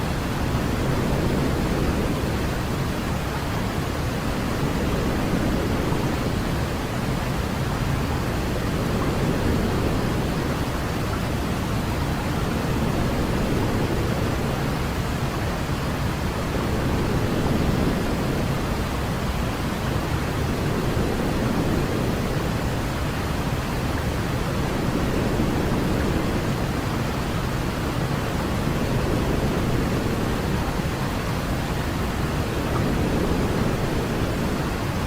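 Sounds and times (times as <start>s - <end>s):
steady white noise hiss: 0.0s - 35.0s.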